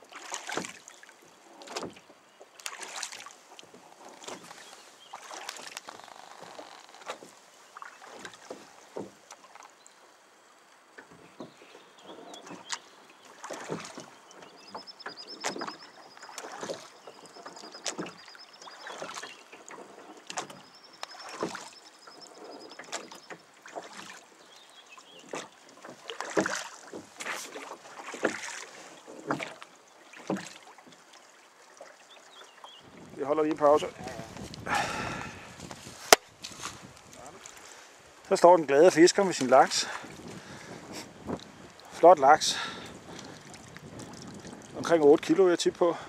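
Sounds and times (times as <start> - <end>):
water slapping against boat hull: 0.0 - 9.8, 11.0 - 46.0.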